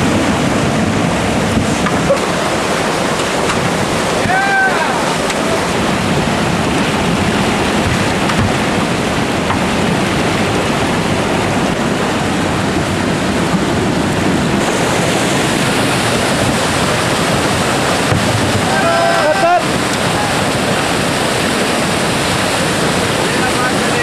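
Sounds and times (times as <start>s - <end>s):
whitewater rushing: 0.0s - 24.0s.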